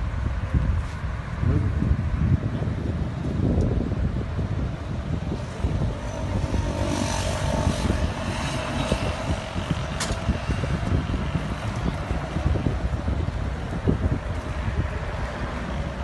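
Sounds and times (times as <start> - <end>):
traffic passing: 0.0 - 16.0
wind buffeting microphone: 0.0 - 16.0.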